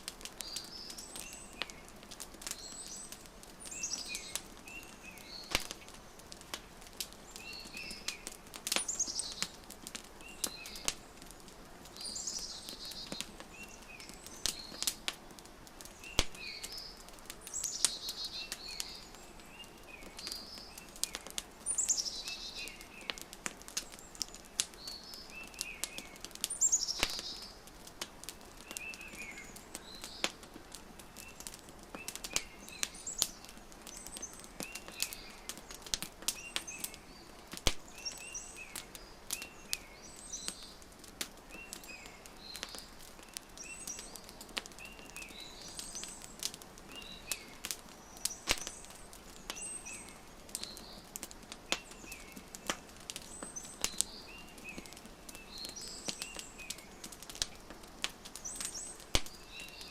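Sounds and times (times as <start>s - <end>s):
wood fire crackling and popping: 0.0s - 59.9s
birds singing: 0.3s - 59.9s.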